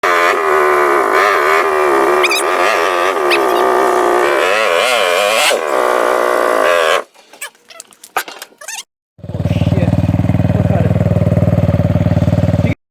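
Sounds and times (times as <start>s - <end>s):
quad engine at high revs: 0.0s - 7.1s, 9.2s - 12.8s.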